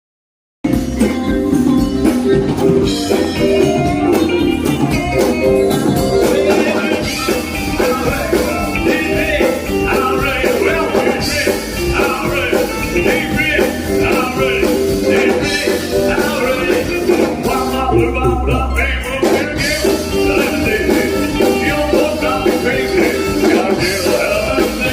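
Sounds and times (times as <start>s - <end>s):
rock music with singing: 0.6s - 24.9s.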